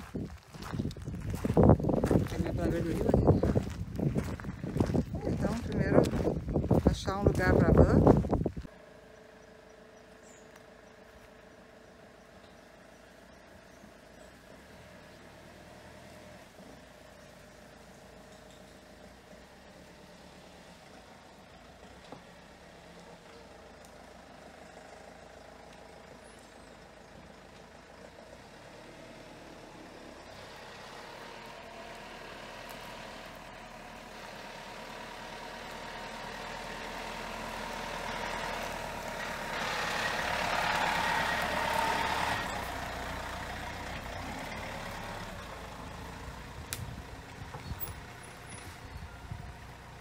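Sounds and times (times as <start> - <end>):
van engine driving on dirt: 0.0 - 50.0.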